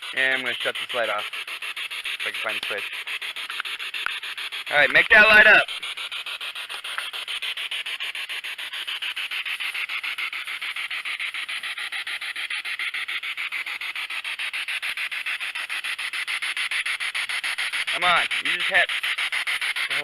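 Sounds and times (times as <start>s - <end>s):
pulsing radio static: 0.0s - 14.6s, 17.2s - 20.0s.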